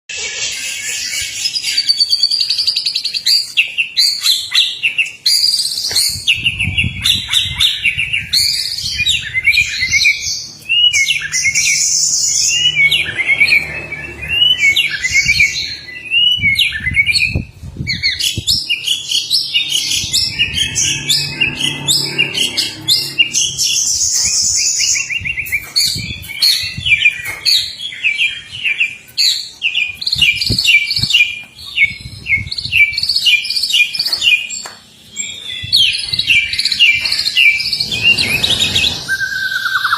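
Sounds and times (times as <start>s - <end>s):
bird singing whistles and trills: 0.1s - 39.9s.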